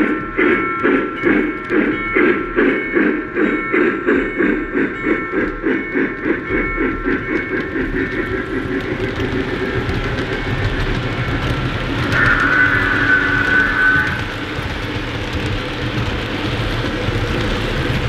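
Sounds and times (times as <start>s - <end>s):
sustained tone: 0.0s - 14.6s
model steam locomotive chuffing: 0.0s - 18.0s.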